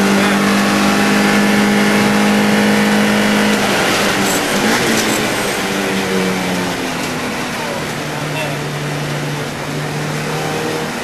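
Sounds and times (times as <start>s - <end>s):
race car engine at high revs: 0.0s - 11.0s
road and wind noise: 0.0s - 11.0s.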